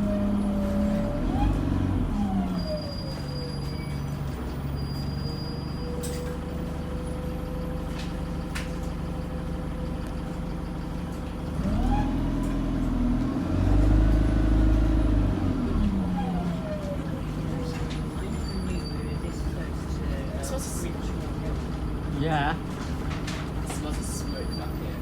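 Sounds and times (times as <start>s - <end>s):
bus engine: 0.0s - 25.0s.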